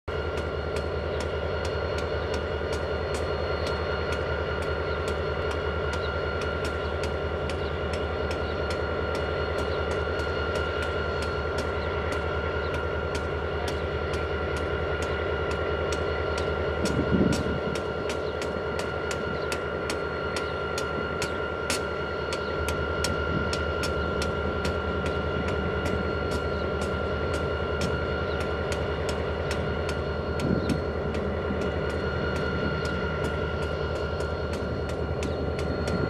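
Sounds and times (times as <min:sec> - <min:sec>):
locomotive engine idling drone: 0:00.0 - 0:36.0.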